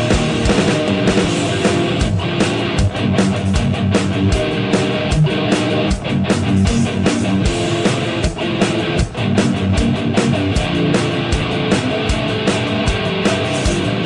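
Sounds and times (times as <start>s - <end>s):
drum beat: 0.0s - 14.0s
electric guitar riffing: 0.0s - 14.0s.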